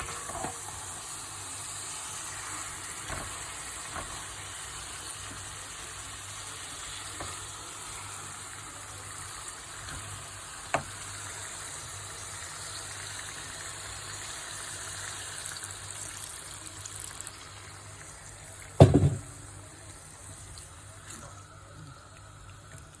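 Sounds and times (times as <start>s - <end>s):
chicken sizzling: 0.0s - 23.0s.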